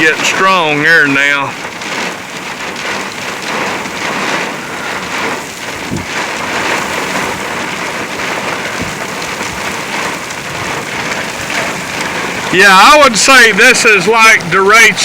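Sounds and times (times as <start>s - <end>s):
heavy rain pouring: 0.0s - 15.0s
strong wind gusts: 0.0s - 15.0s
low thumps: 1.5s - 15.0s.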